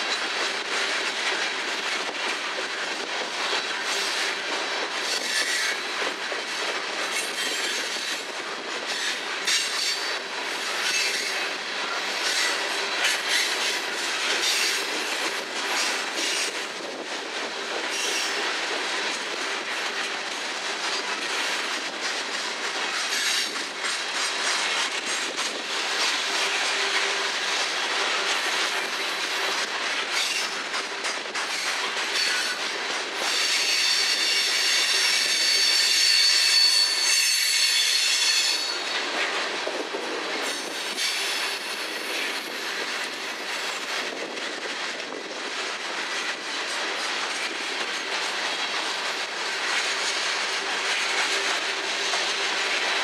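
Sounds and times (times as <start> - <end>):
freight cars rolling on rails: 0.0 - 53.0.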